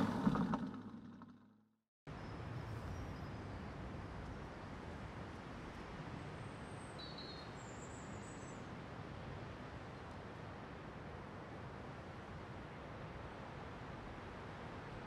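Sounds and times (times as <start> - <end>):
faint outdoor background noise: 2.1 - 15.0.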